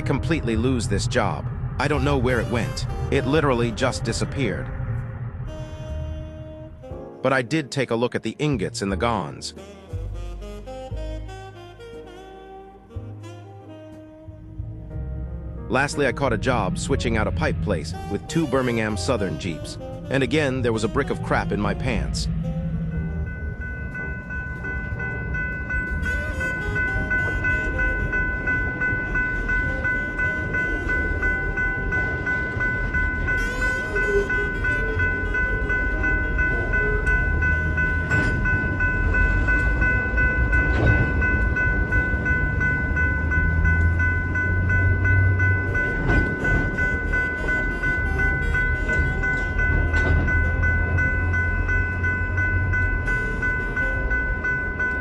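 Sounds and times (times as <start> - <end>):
steady high whine: 0.0 - 6.9, 15.7 - 55.0
locomotive engines rumbling: 0.0 - 55.0.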